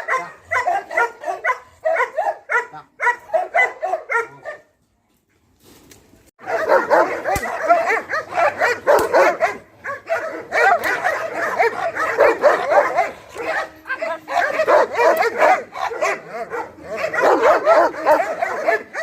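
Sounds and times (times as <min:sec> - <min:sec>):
dogs barking and yelping: 0:00.0 - 0:04.7, 0:06.4 - 0:19.0.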